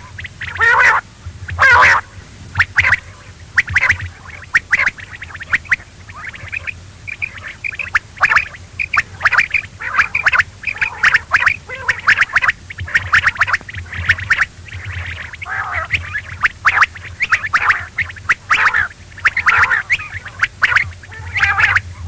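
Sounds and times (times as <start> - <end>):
quail calling: 0.0 - 22.0.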